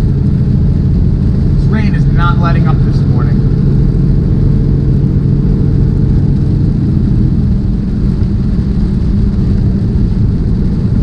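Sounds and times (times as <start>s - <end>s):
steady hum: 0.0s - 11.0s
truck engine drone and road noise: 0.0s - 11.0s.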